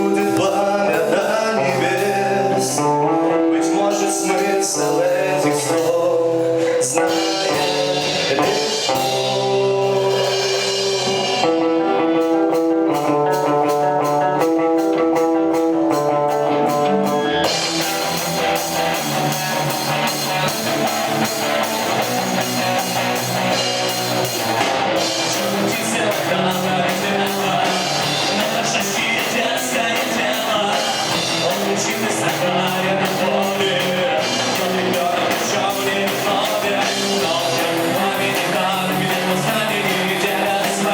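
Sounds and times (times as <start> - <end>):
drums: 0.0 - 40.9
guitar chords ringing: 0.0 - 40.9
rock band playing live: 0.0 - 40.9.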